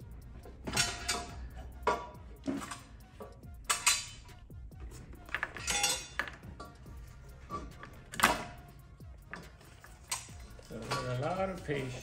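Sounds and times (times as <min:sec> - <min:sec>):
metal exhaust manifold clanking: 0:00.0 - 0:12.0.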